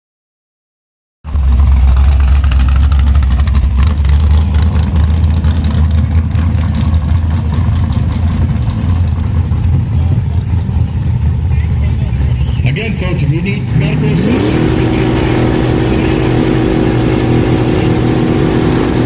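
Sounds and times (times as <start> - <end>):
car engine idling: 1.3 - 19.0.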